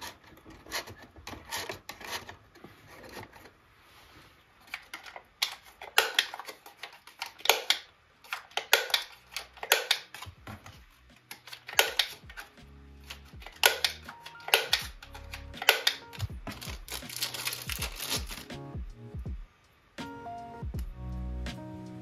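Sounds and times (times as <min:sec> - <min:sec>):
plastic bags and cards rustling: 0:00.0 - 0:18.6.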